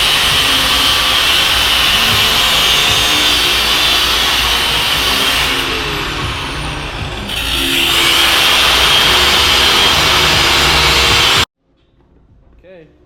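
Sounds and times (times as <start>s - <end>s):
angle grinder cutting steel: 0.0s - 11.5s.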